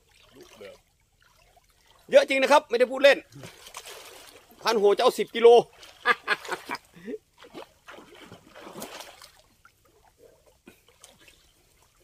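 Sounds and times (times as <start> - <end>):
splashing in shallow water: 0.0 - 12.0.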